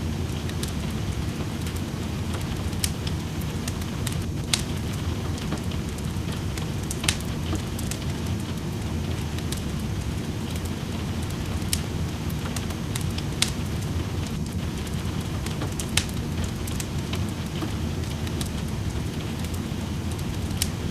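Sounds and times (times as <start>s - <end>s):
steady rain patter: 0.0s - 20.9s
wood fire crackling: 0.0s - 20.9s.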